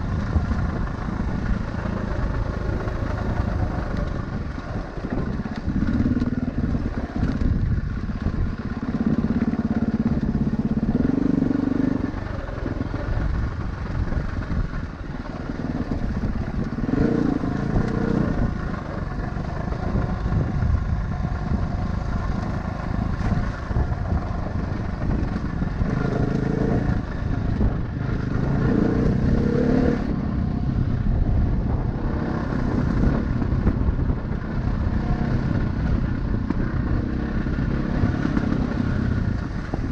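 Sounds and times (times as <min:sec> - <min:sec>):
off-road vehicle engine: 0:00.0 - 0:39.9
steady rumbling noise: 0:00.0 - 0:39.9.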